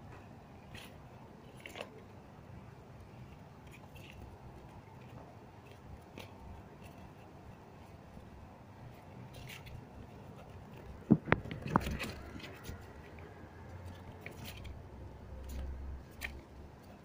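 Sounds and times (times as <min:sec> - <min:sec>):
faint clicks and crinkles: 0:00.1 - 0:02.2, 0:02.9 - 0:17.0.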